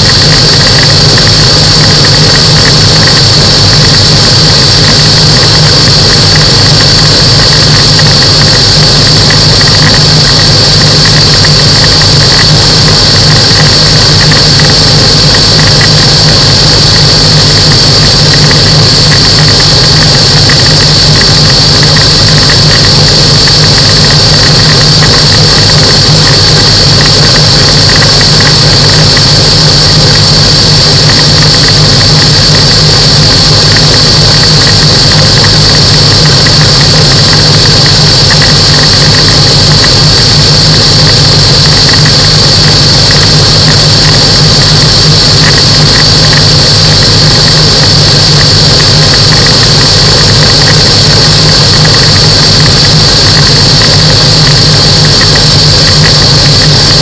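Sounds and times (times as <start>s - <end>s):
microlight aircraft engine: 0.0s - 57.0s.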